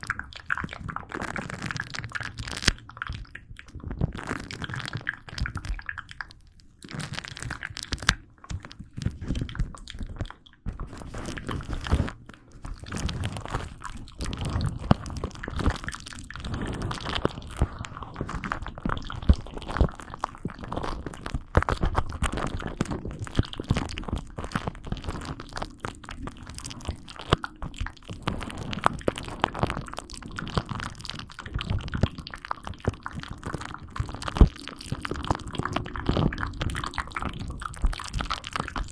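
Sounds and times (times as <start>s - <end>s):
close crunching and crackling clicks: 0.0s - 38.9s.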